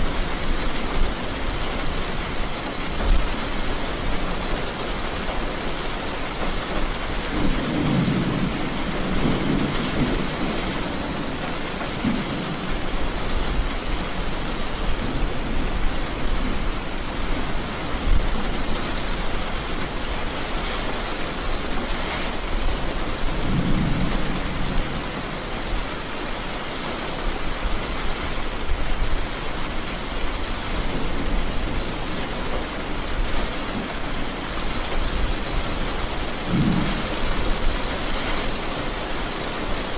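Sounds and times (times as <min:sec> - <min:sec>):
steady rain: 0:00.0 - 0:39.9
thunder rumbles: 0:06.4 - 0:26.5, 0:27.2 - 0:39.8.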